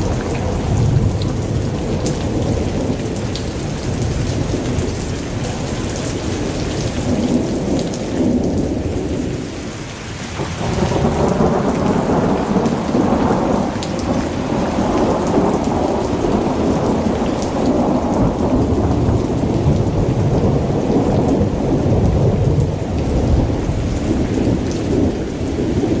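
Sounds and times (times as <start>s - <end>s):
steady rain: 0.0s - 26.0s
thunder rumbling: 0.0s - 26.0s.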